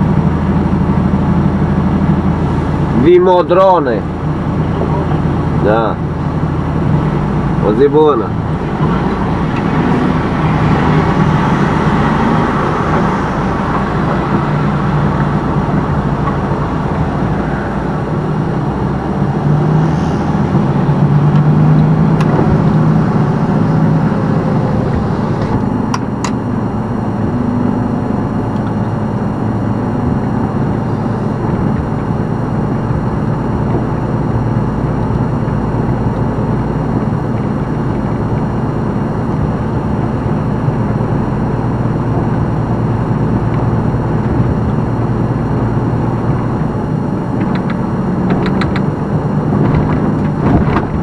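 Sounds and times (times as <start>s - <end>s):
diesel truck engine: 0.0s - 51.0s.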